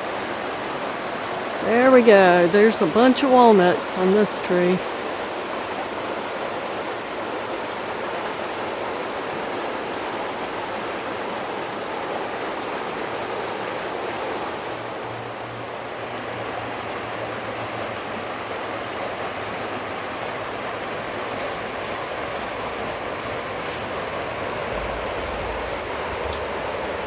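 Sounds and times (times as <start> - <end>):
flowing water rushing: 0.0 - 27.0.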